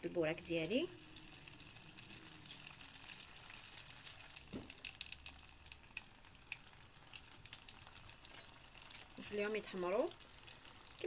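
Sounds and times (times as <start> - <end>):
pastry deep-frying in oil: 0.0 - 11.0.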